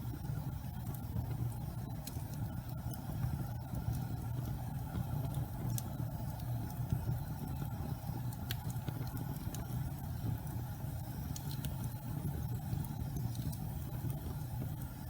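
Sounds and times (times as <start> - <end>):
fire crackling: 0.0 - 15.0
low rumble of flames: 0.0 - 15.0.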